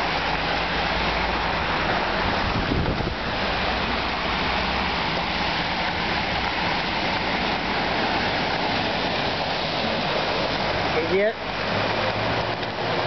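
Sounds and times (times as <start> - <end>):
rain: 0.0 - 13.0
tyres swishing through water: 0.0 - 13.0.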